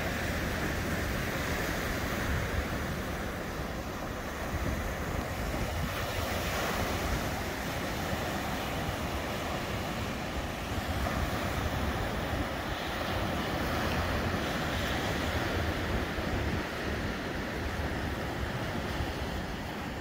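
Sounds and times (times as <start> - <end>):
waves breaking on shore: 0.0 - 20.0
wind buffeting microphone: 0.0 - 20.0.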